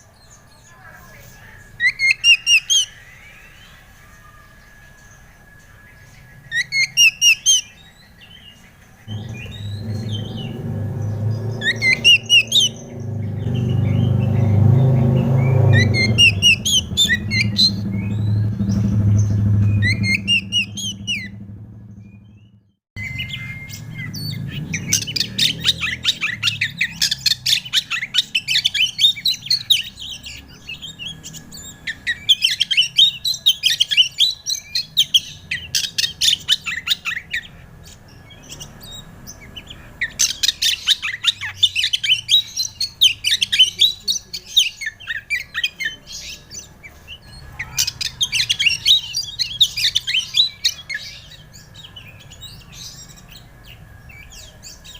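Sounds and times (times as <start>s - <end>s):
bird singing chirps and whistles: 1.4s - 54.9s.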